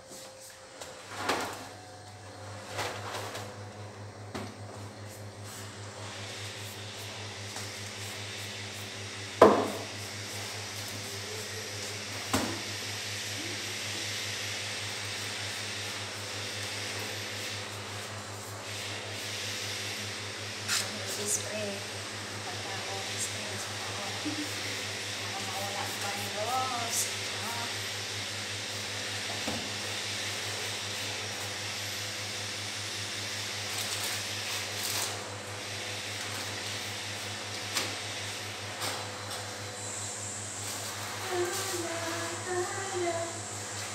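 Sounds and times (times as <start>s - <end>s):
air conditioning hiss and hum: 0.0s - 43.9s.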